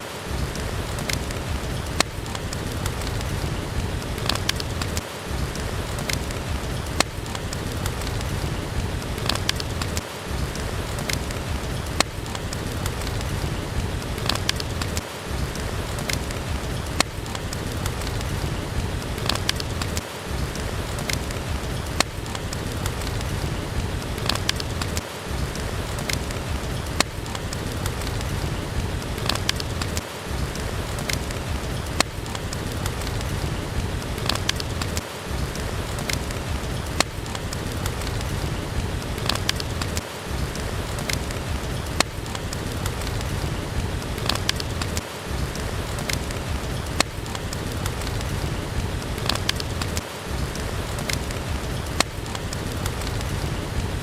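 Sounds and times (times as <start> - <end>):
heavy rain: 0.0 - 54.0
sharp clicks and pops: 0.3 - 54.0.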